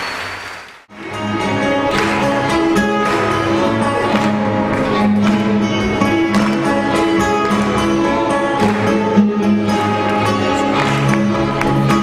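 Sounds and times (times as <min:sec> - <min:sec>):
acoustic guitar: 0:00.9 - 0:12.0.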